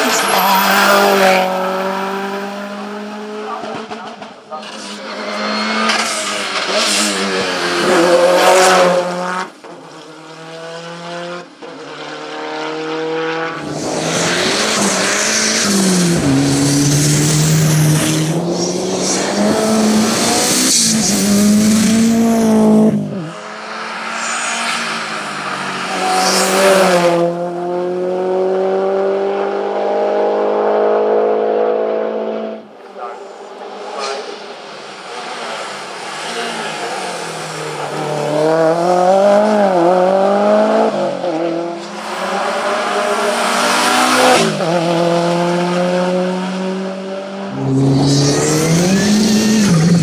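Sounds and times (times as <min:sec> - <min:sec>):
race cars passing at full throttle: 0:00.0 - 0:50.0.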